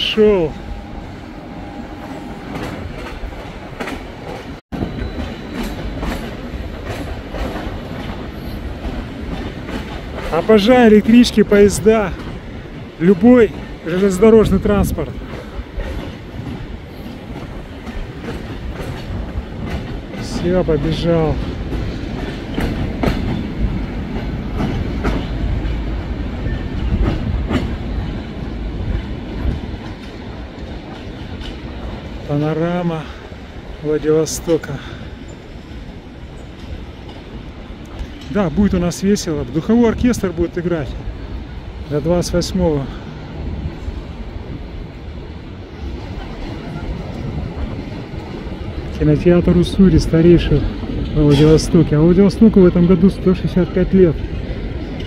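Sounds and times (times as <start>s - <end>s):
electric train rumbling: 0.0s - 55.0s
train wheels clicking over rail joints: 2.0s - 55.0s.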